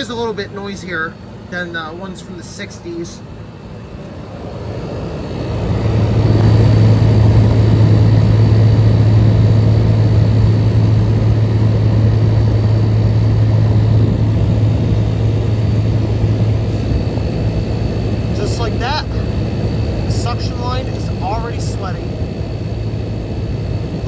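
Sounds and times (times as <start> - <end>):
air conditioner running: 0.0 - 24.0.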